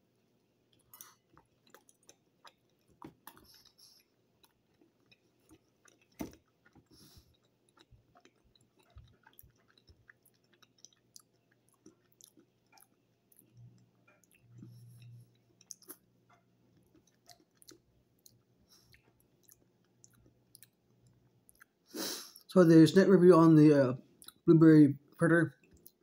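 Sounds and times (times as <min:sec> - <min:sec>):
chewing with mouth smacks: 0:00.7 - 0:21.9, 0:24.2 - 0:24.4, 0:25.6 - 0:26.0.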